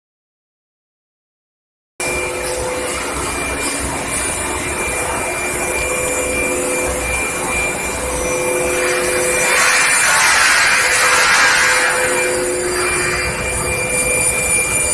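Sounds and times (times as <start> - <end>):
industrial machine hiss and hum: 2.0 - 14.9.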